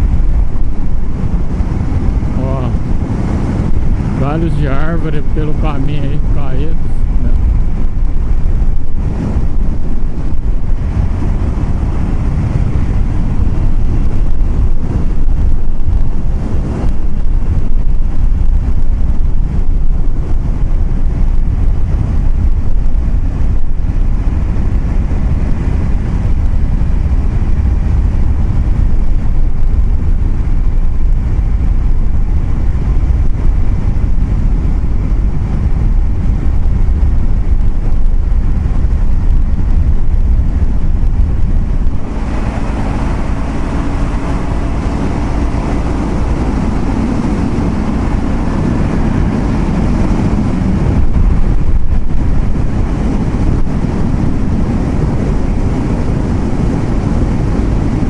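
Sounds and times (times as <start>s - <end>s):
vehicle road and wind rumble: 0.0s - 58.0s
wind buffeting microphone: 0.0s - 58.0s.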